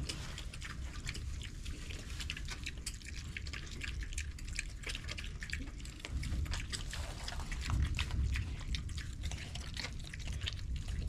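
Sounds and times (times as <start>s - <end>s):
piglets crunching and smacking feed: 0.0s - 11.0s.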